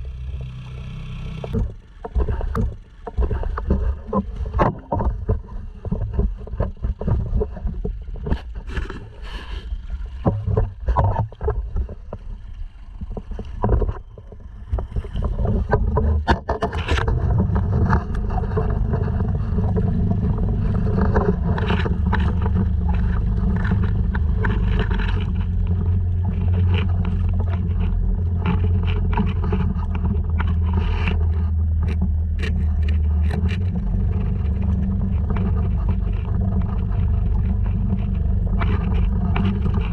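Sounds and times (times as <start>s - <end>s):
outboard motor humming: 0.0s - 39.9s.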